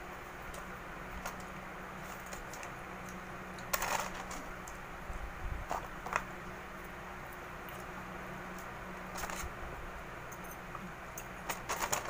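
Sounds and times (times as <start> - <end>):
rustles and clicks of handling pizza: 0.0 - 12.0
steady low hum: 0.0 - 12.0.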